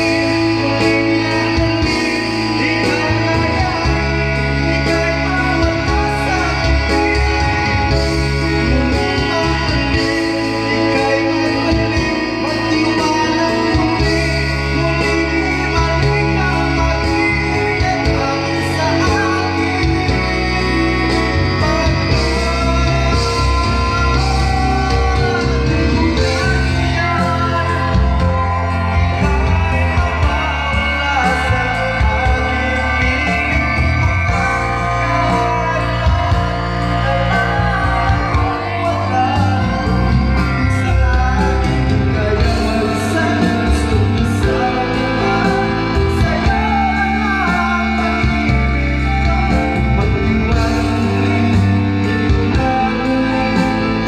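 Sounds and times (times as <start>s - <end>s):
backing track music: 0.0s - 54.0s
man singing into a microphone: 0.0s - 54.0s.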